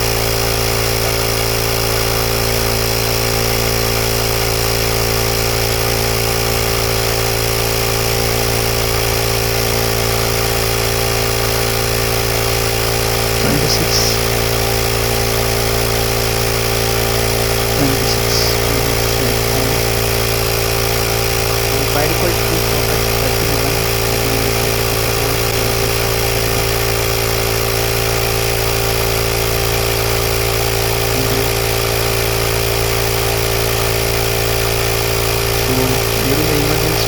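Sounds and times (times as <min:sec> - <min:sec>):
tyre inflator compressor humming: 0:00.0 - 0:37.0.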